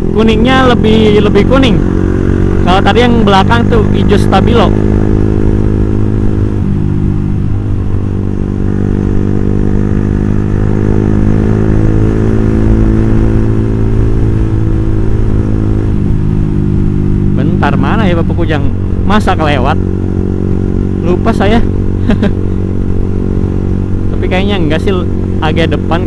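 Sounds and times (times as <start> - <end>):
motorcycle engine and exhaust: 0.0 - 26.0.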